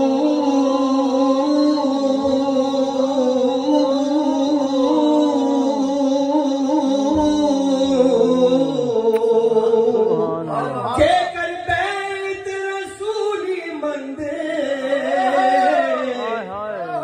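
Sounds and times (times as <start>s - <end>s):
man singing through loudspeakers: 0.0s - 17.0s.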